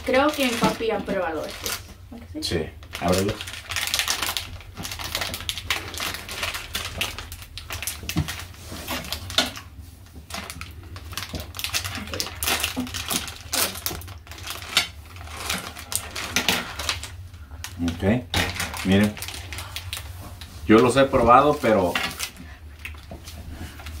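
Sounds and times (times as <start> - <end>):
plastic wrapper crinkling: 0.0 - 2.0, 2.7 - 24.0.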